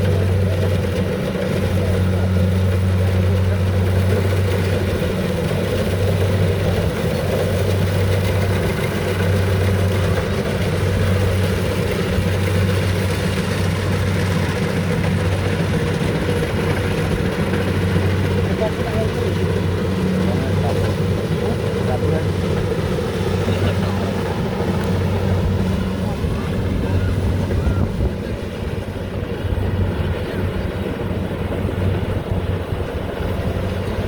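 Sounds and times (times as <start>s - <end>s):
diesel engine humming steadily: 0.0s - 34.0s.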